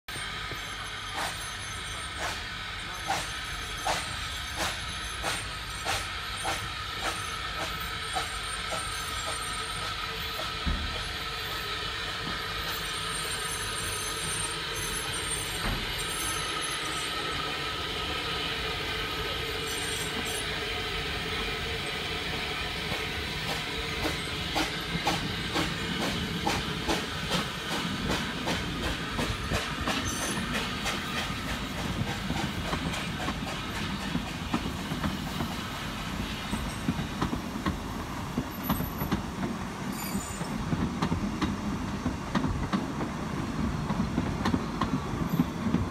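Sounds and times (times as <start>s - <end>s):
steam locomotive hissing steam: 0.1s - 45.9s.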